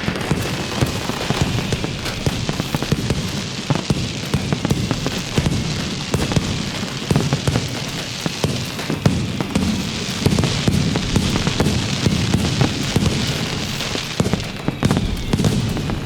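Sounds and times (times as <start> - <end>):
firecrackers popping: 0.0 - 16.0.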